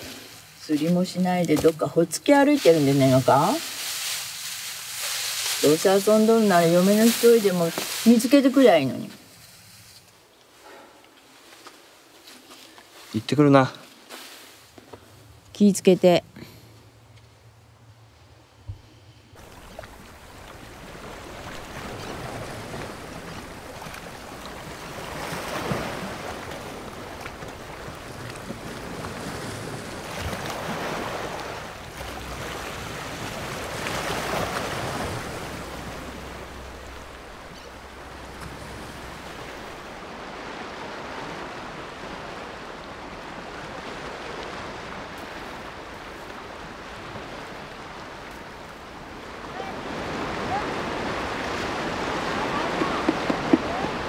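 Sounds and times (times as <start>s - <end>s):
sea waves on rocky shore: 0.0s - 9.1s, 19.4s - 54.0s
wind blowing: 0.0s - 10.3s, 14.6s - 54.0s.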